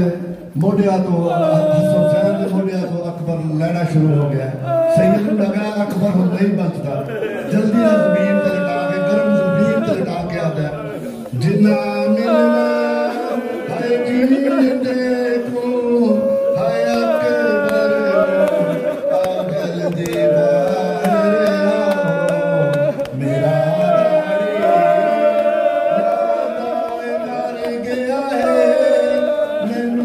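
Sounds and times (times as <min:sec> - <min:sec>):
man chanting a lament: 0:00.0 - 0:30.0.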